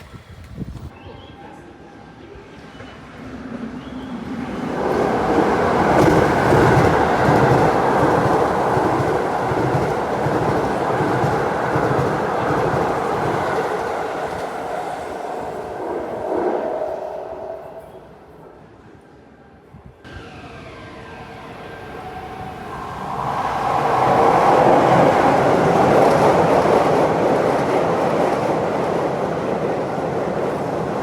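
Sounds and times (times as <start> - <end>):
electric train passing: 3.0 - 31.0.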